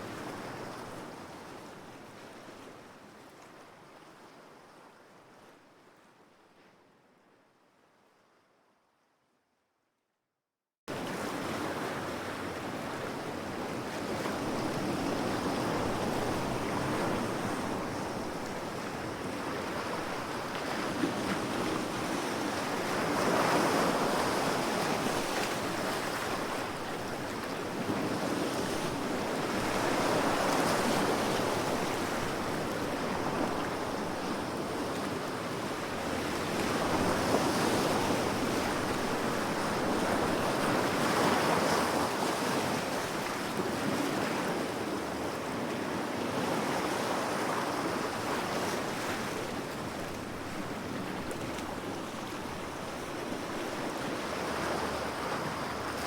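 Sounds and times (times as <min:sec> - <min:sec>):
ocean waves washing ashore: 0:10.9 - 0:56.0.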